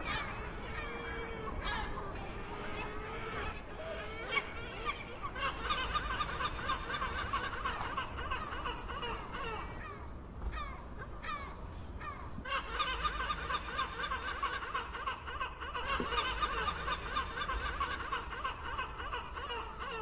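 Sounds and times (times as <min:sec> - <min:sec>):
gulls calling: 0:00.0 - 0:20.0.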